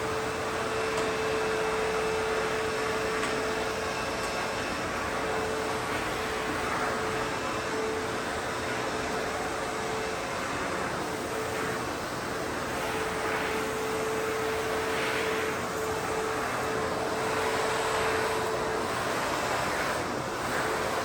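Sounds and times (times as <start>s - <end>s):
backpack vacuum running: 0.0s - 21.0s.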